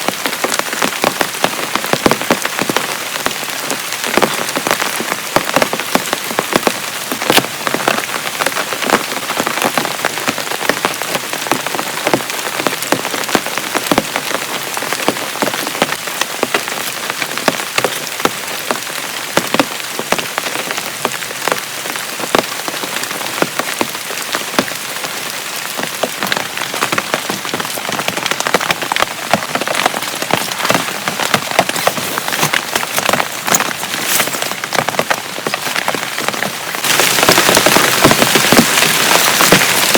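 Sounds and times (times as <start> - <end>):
heavy rain falling: 0.0 - 39.9
raindrops hitting a surface: 0.0 - 39.9.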